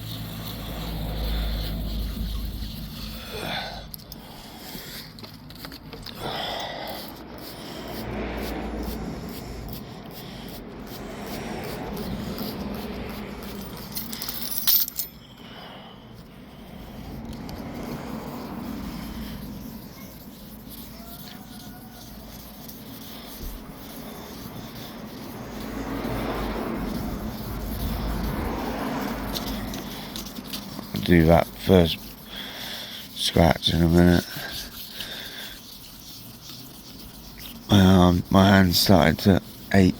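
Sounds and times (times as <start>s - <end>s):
sandpaper rubbing on paint: 0.0s - 14.0s, 16.3s - 39.9s.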